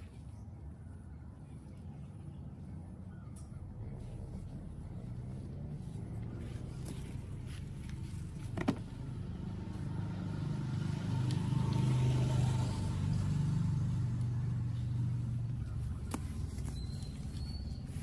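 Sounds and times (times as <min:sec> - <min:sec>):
engine humming: 0:00.8 - 0:18.0.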